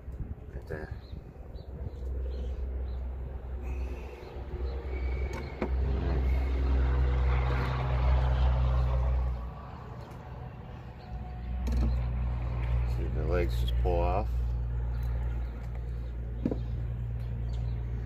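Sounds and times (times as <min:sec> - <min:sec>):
vehicle engine droning: 0:00.7 - 0:18.0.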